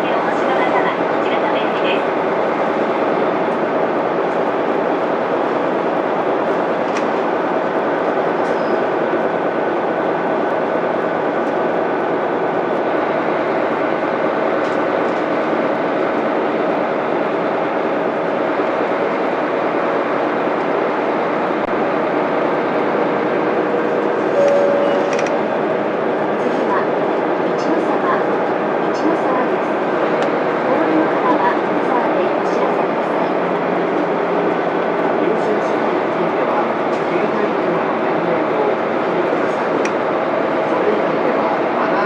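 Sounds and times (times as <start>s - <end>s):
bus diesel engine running: 0.0s - 41.8s.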